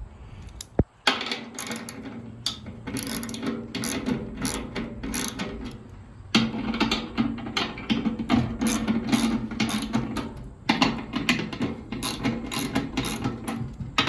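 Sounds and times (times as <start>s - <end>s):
hand tools clicking and scraping metal: 0.4s - 14.0s.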